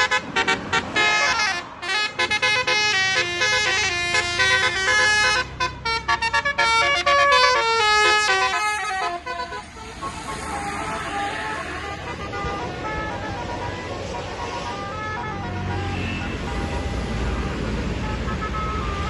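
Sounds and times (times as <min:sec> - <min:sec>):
bus horn playing staccato melody: 0:00.0 - 0:19.0.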